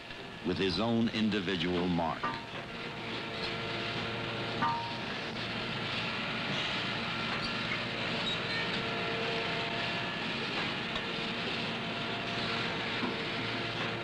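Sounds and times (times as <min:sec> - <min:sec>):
faint steady hums: 0:00.0 - 0:14.0
machinery rumble and hiss: 0:00.0 - 0:14.0.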